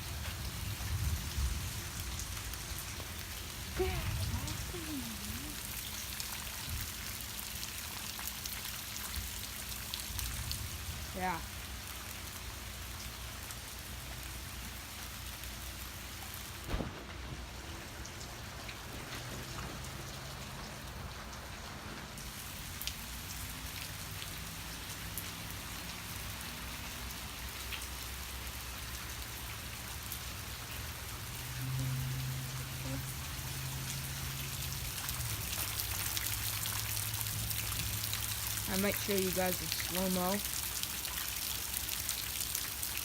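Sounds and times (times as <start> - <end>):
rain falling: 0.0 - 43.0
raindrops ticking on surfaces: 0.0 - 43.0.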